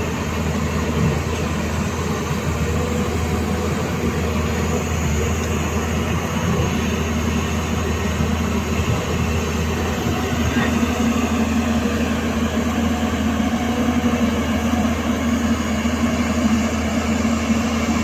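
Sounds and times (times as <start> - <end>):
excavator diesel engine droning: 0.0 - 18.0.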